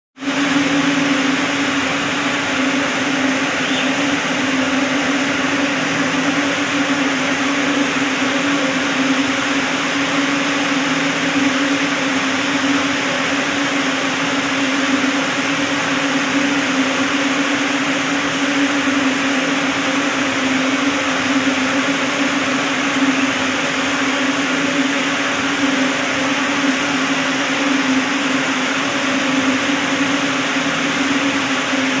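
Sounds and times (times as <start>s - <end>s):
spinning machines humming: 0.2s - 32.0s.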